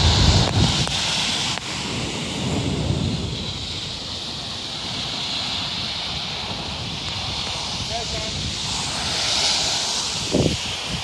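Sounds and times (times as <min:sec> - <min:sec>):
small waves breaking on shore: 0:00.0 - 0:11.0
wind buffeting microphone: 0:00.0 - 0:11.0.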